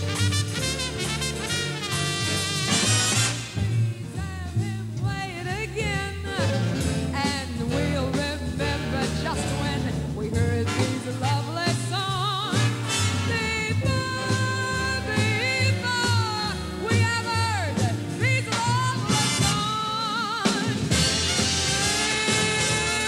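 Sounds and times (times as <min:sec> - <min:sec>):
swinging big band accompaniment: 0:00.0 - 0:23.0
woman singing: 0:03.5 - 0:23.0.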